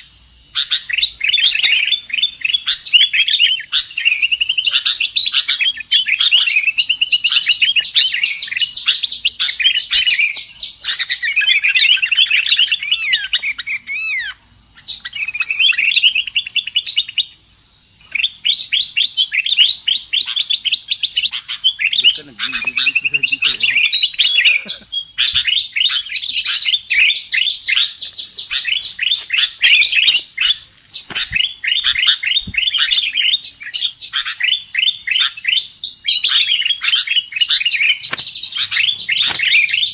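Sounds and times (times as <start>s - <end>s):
bird chattering chirps and whistles: 0.0s - 17.4s, 18.0s - 39.9s.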